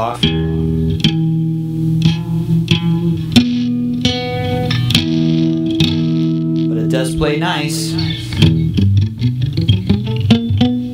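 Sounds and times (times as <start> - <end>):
guitar being picked: 0.0 - 10.9.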